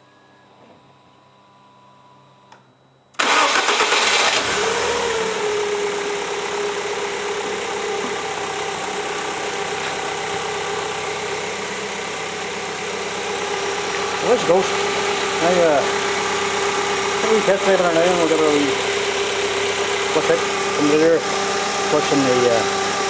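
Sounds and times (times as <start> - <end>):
car engine starting and idling: 3.2 - 23.0.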